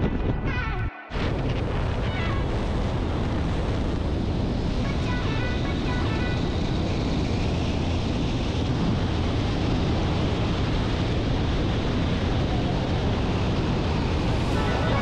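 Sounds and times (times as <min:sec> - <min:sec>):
wind on microphone: 0:00.0 - 0:15.0
speedboat engine and water rush: 0:01.1 - 0:15.0.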